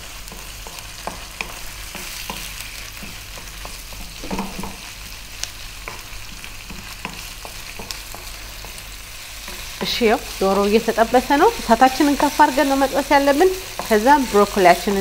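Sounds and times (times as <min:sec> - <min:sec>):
chicken sizzling in hot oil: 0:00.0 - 0:15.0
wooden spoon scraping a wok: 0:00.0 - 0:15.0.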